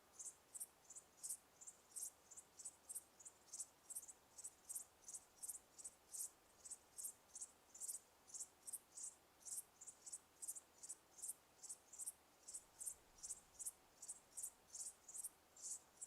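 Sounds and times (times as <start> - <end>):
insects chirping: 0.2 - 16.0.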